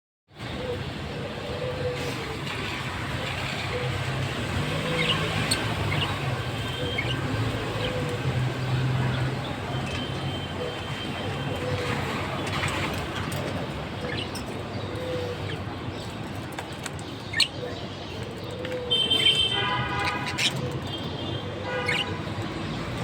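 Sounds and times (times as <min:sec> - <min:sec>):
steady background noise: 0:00.3 - 0:23.0
birds chirping and calling: 0:00.4 - 0:23.0.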